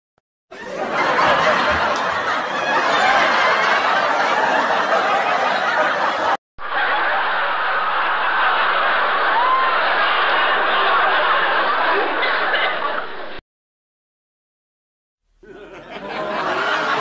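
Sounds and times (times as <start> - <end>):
audience laughter: 0.5 - 13.4, 15.4 - 17.0.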